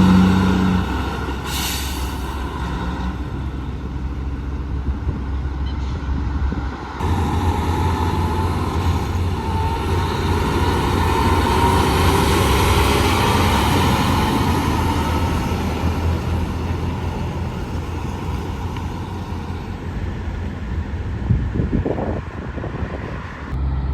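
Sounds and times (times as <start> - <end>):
heavy truck driving past: 0.0 - 21.2, 23.5 - 23.9.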